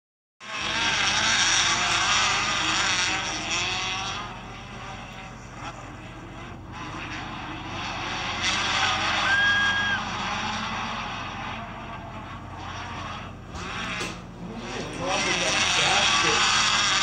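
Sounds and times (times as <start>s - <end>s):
race car engines revving: 0.4s - 17.0s.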